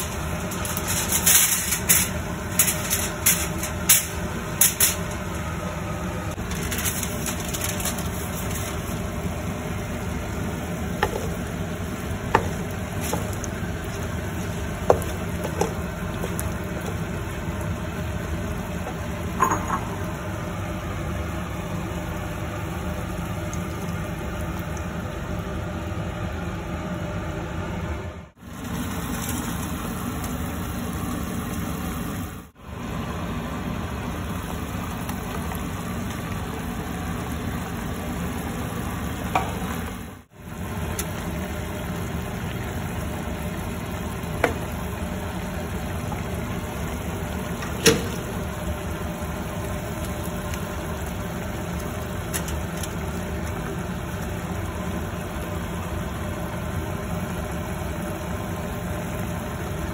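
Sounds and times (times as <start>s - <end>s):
food frying in a pan: 0.0s - 27.1s, 28.4s - 59.9s.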